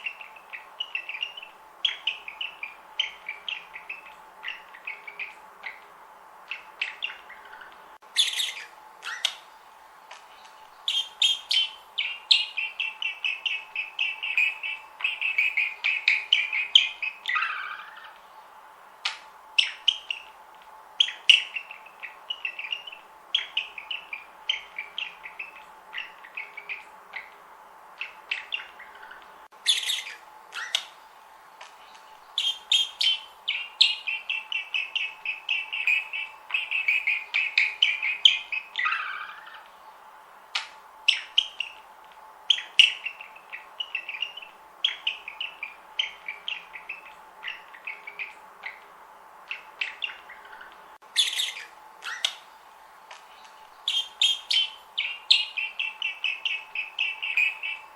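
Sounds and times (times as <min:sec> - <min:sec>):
budgerigars chattering and warbling: 0:00.0 - 0:09.6, 0:10.2 - 0:18.4, 0:19.0 - 0:20.4, 0:21.0 - 0:31.0, 0:31.8 - 0:40.0, 0:40.6 - 0:41.9, 0:42.5 - 0:52.5, 0:53.4 - 0:57.9.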